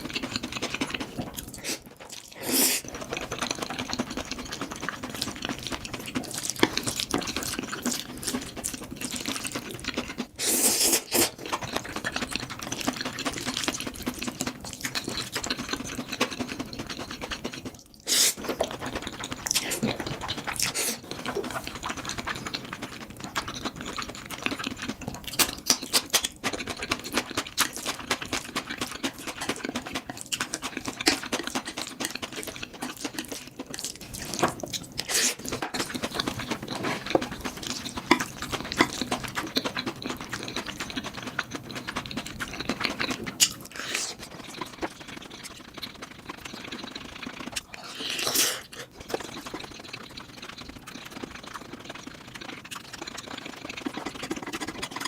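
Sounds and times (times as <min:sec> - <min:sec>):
chewing with wet mouth clicks: 0:00.0 - 0:55.0.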